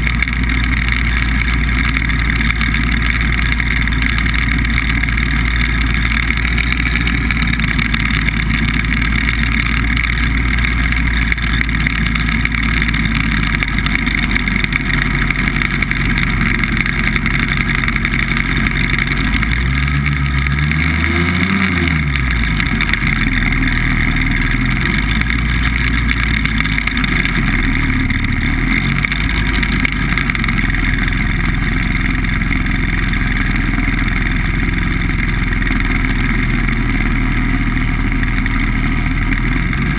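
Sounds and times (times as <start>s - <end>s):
hovercraft engine drone: 0.0s - 39.9s.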